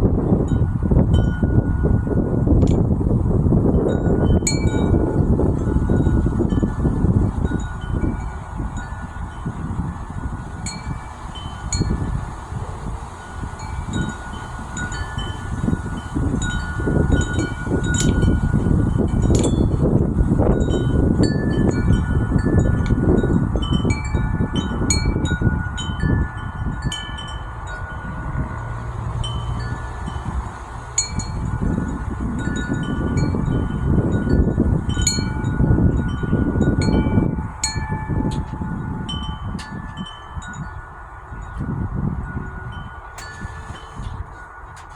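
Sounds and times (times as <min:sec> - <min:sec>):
wind buffeting microphone: 0:00.0 - 0:44.9
wind chime ringing: 0:03.8 - 0:12.3, 0:13.2 - 0:44.9.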